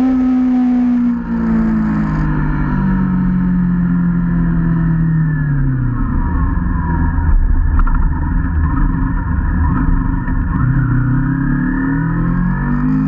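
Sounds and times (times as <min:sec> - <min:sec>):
vehicle engine running: 0:00.0 - 0:13.0
wind and road noise: 0:00.0 - 0:13.0.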